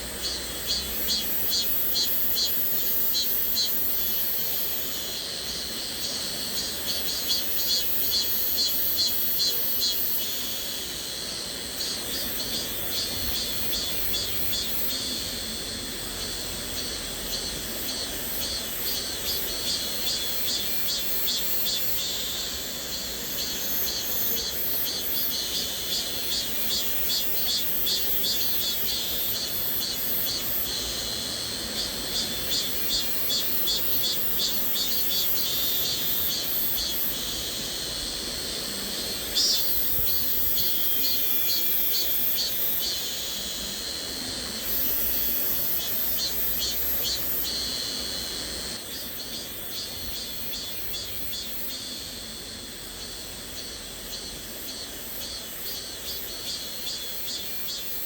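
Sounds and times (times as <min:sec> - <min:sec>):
cicadas shrilling: 0:00.0 - 0:58.0.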